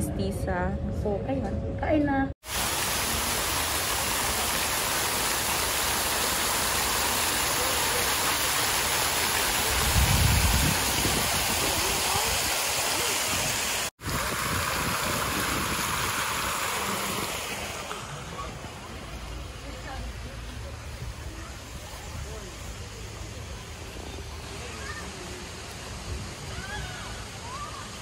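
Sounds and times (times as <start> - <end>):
fountain water splashing: 2.4 - 28.0.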